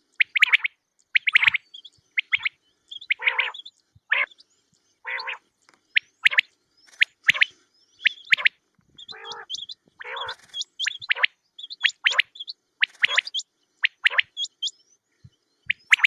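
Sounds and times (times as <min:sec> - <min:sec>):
rough buzzy quail calls: 0:00.0 - 0:14.8, 0:15.6 - 0:16.0
quail chirps: 0:00.0 - 0:16.0.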